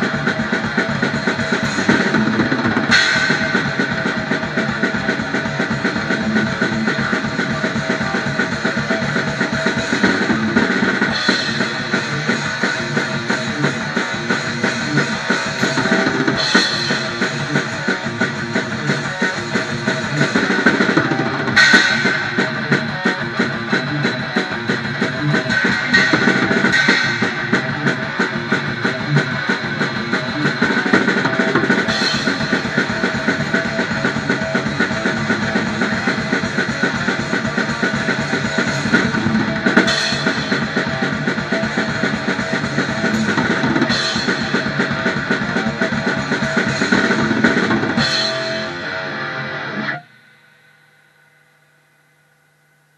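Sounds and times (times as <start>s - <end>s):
fast drumming with cymbal crashes: 0.0s - 50.1s
thrash metal electric guitar: 0.0s - 50.4s.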